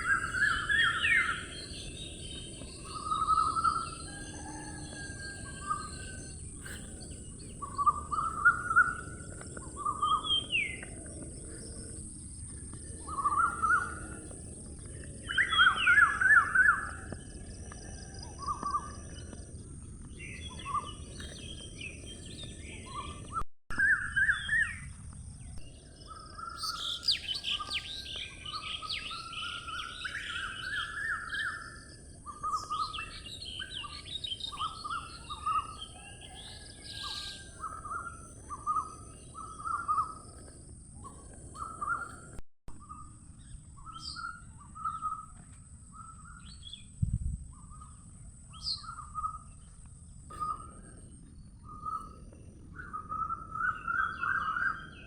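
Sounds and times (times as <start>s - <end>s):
small birds chirping: 0.0s - 23.4s, 24.0s - 55.0s.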